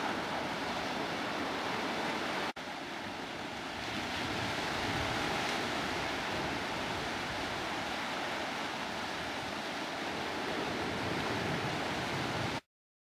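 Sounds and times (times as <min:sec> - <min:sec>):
waves washing over rocks: 0:00.0 - 0:12.6.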